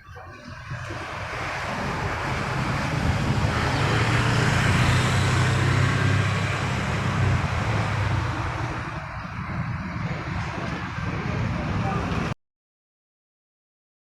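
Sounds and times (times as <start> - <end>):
diesel engine running: 0.4 - 12.3.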